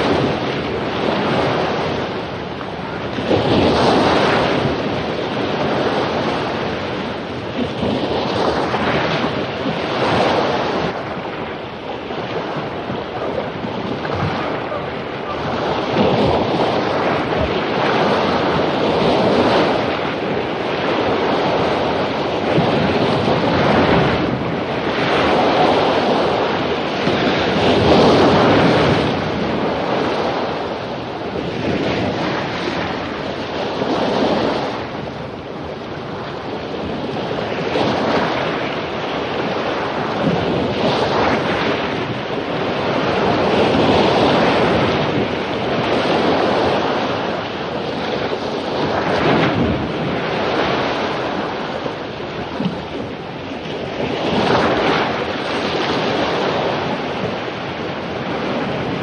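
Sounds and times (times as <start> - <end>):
surf breaking on beach: 0.0 - 59.0
wind noise on microphone: 0.0 - 59.0.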